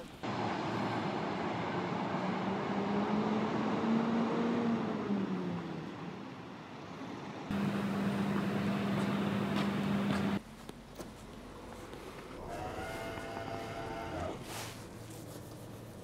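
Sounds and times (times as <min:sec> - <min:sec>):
road traffic engine hum: 0:00.0 - 0:16.0.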